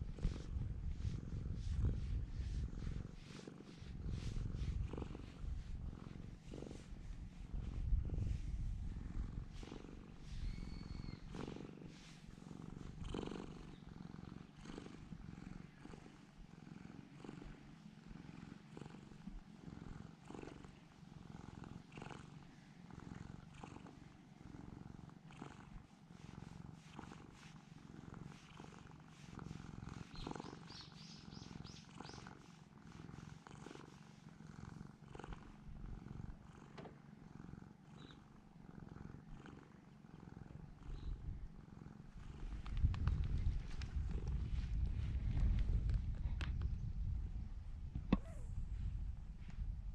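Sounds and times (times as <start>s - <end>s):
cat purring: 0.0s - 49.9s.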